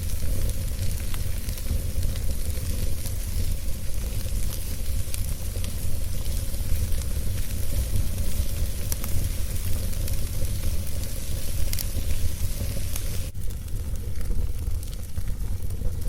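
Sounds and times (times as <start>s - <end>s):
wood fire burning: 0.0s - 16.0s.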